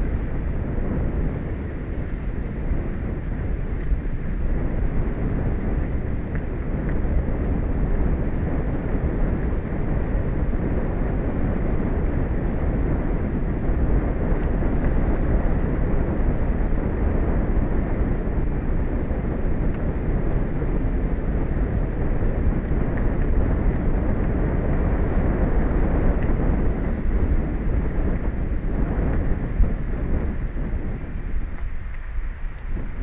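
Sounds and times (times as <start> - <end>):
low rumbling noise: 0.0 - 33.0.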